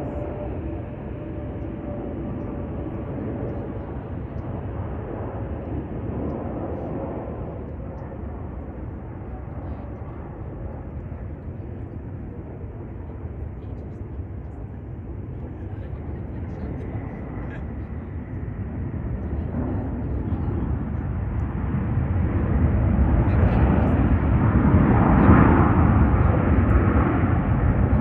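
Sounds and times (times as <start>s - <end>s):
jet airliner engines rumbling: 0.0s - 28.0s.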